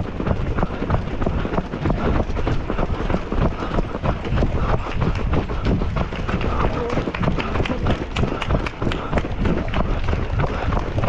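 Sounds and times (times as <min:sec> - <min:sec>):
low rumble: 0:00.0 - 0:11.0
running footsteps on road: 0:00.0 - 0:11.0.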